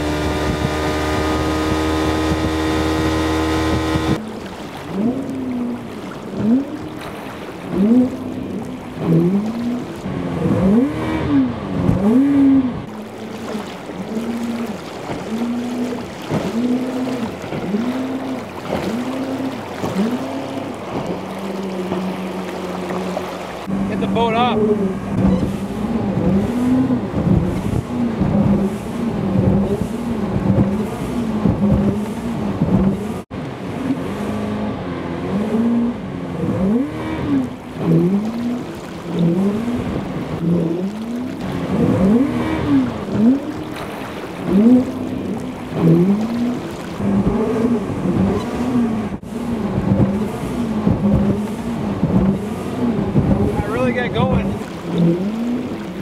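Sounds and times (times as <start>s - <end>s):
outboard motor running hard: 0.0s - 56.0s
water and wind hiss: 0.0s - 56.0s.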